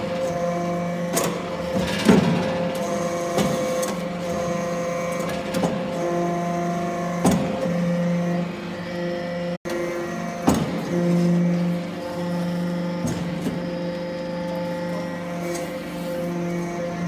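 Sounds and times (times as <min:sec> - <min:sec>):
hydraulic power unit humming: 0:00.0 - 0:17.0.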